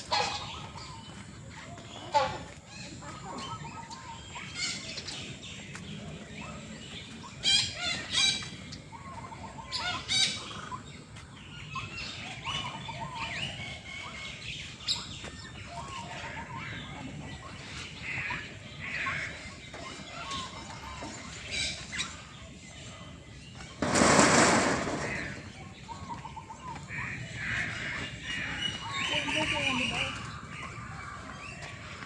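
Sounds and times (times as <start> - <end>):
birds chirping and calling: 0.0 - 32.0.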